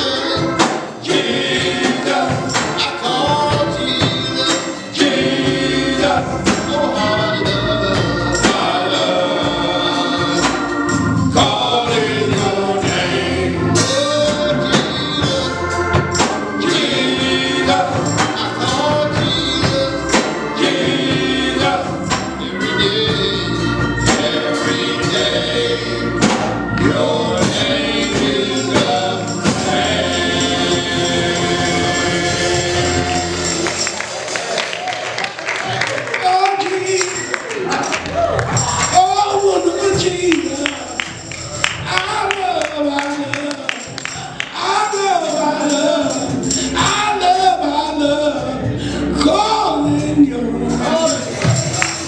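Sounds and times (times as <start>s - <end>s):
gospel choir singing: 0.0s - 52.0s
instrumental accompaniment: 0.0s - 52.0s
steady percussive beat: 0.0s - 52.0s.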